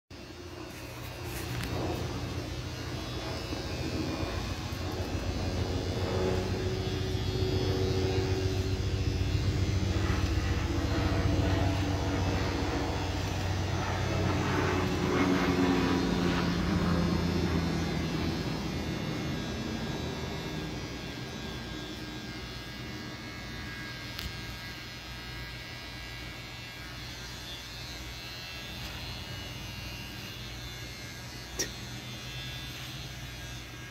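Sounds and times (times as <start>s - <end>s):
electric hair clippers buzzing: 0.1s - 33.9s.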